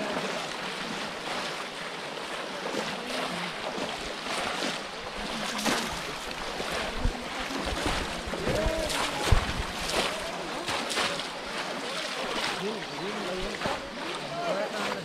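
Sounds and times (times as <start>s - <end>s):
muddy water splashing: 0.0s - 15.0s
people wading through water: 0.0s - 15.0s.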